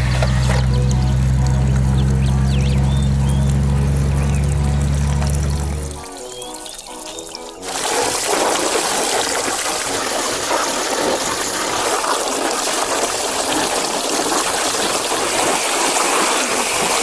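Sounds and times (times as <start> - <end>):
water streaming: 0.0 - 17.0.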